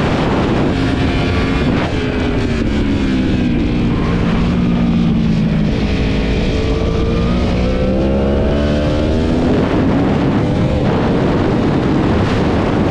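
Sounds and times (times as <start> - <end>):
motorcycle engine accelerating: 0.0 - 12.9.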